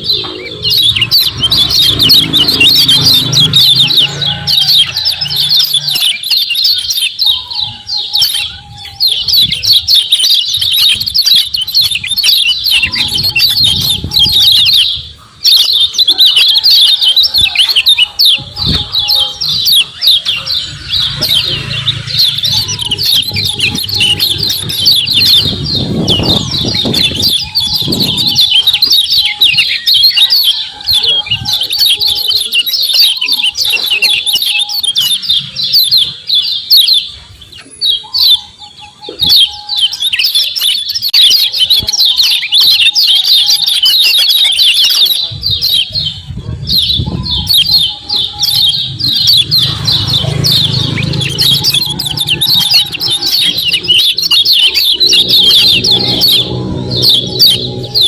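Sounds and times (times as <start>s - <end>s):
birds chirping rapidly: 0.0s - 58.0s.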